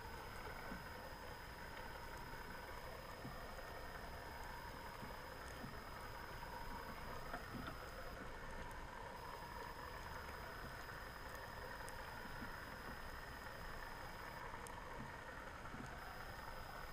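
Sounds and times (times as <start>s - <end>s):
faint high whine: 0.0s - 16.9s
muffled underwater hum and hiss: 0.0s - 16.9s
faint clicks: 0.3s - 8.8s, 9.6s - 16.9s.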